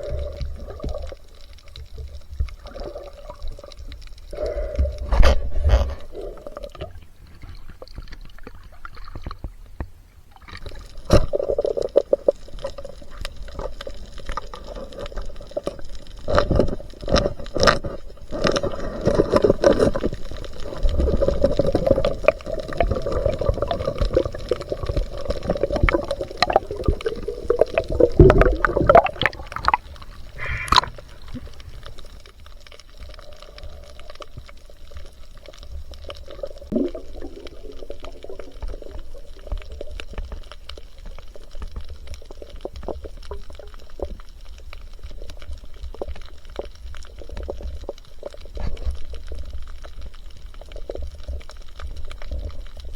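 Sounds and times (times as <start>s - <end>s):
water gurgling and sloshing: 0.0s - 52.9s.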